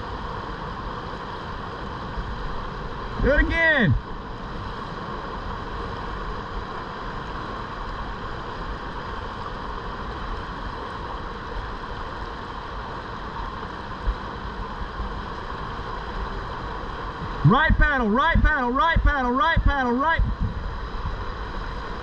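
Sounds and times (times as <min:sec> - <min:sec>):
fast river current rushing: 0:00.0 - 0:22.0.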